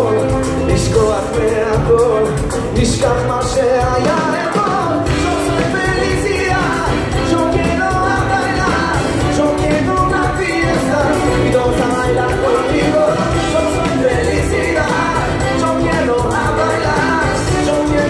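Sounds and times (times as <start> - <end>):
live band playing: 0.0 - 18.0
man singing: 0.0 - 18.0.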